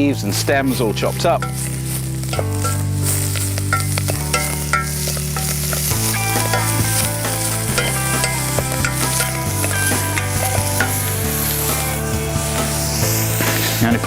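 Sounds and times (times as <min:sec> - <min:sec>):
background music low notes: 0:00.0 - 0:14.0
food sizzling in a pan: 0:00.0 - 0:14.0
stirring in a pan: 0:00.3 - 0:14.0.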